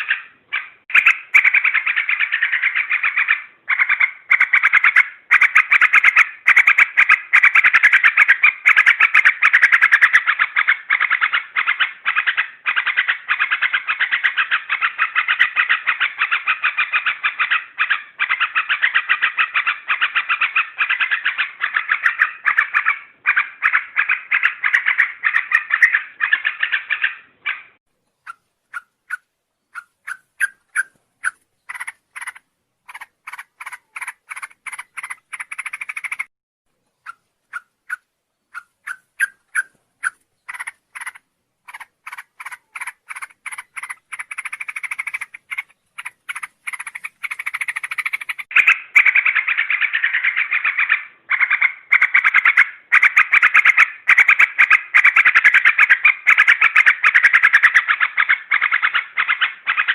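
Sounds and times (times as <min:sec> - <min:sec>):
bird calling in clipped notes: 0:00.0 - 0:59.9.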